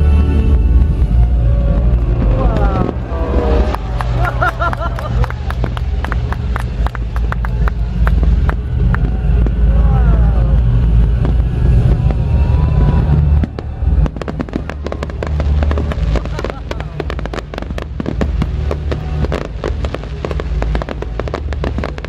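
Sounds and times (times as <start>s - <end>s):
fireworks cracking and banging: 0.0s - 22.0s
low rumble: 0.0s - 22.0s.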